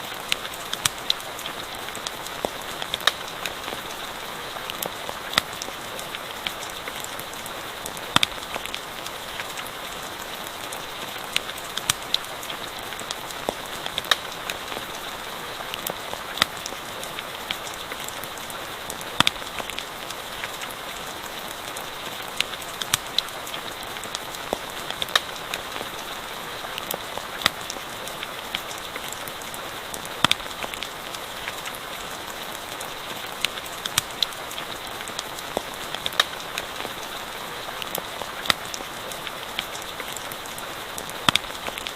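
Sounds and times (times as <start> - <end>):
campfire crackling: 0.0 - 41.9
rain falling: 0.0 - 41.9.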